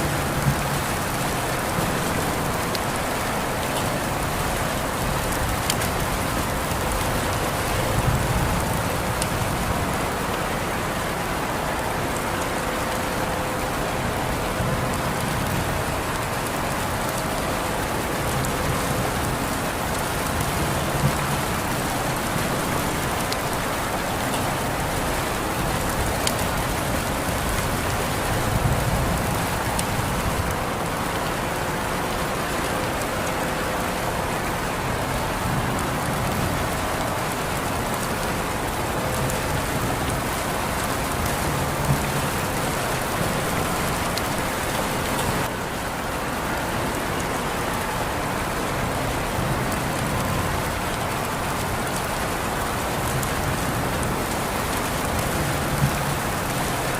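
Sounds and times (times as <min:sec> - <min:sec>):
rain falling on a surface: 0:00.0 - 0:56.9.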